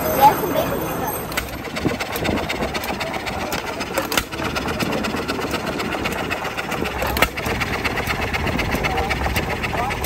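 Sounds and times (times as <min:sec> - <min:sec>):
old engine knocking: 0:00.0 - 0:10.0.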